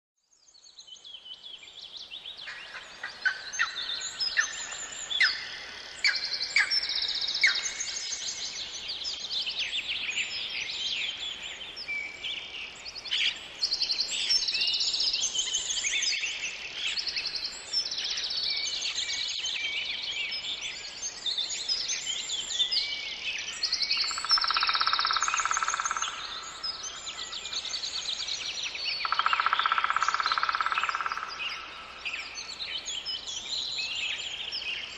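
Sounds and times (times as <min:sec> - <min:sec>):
songbirds singing and calling: 0:00.2 - 0:34.9.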